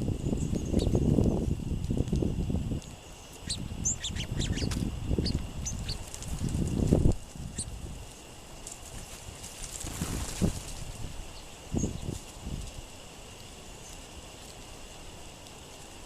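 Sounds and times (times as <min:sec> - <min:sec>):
wind rumbling on microphone: 0:00.0 - 0:14.9
small songbirds chipping: 0:00.0 - 0:16.0.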